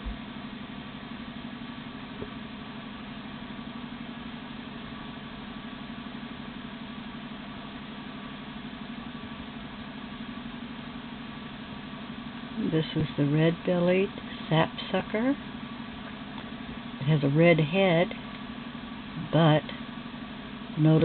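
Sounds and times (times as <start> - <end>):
low motor hum pulsing: 0.0 - 21.0.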